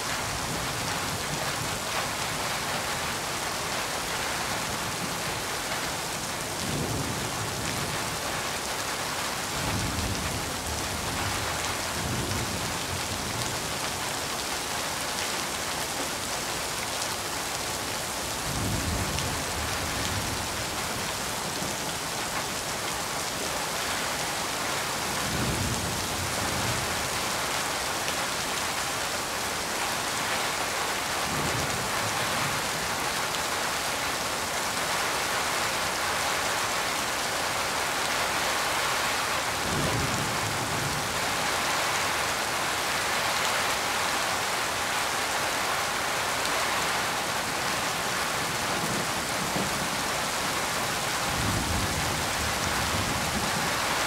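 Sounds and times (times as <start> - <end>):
rain on a metal roof: 0.0 - 54.0.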